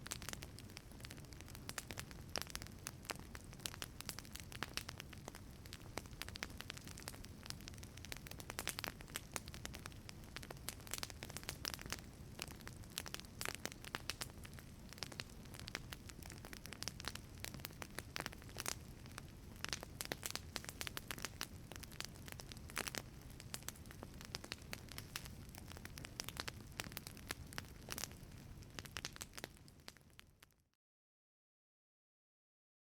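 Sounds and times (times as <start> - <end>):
low rumble of flames: 0.0 - 30.5
wood fire crackling and popping: 0.0 - 30.6.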